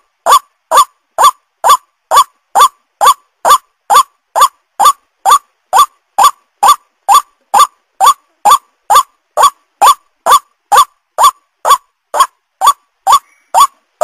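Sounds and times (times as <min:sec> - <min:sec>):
waterhen calling: 0:00.3 - 0:13.8.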